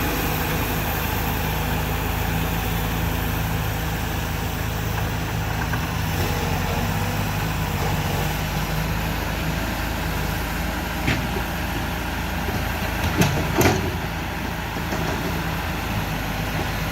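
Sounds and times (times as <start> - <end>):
bulldozer engine running: 0.0 - 16.9.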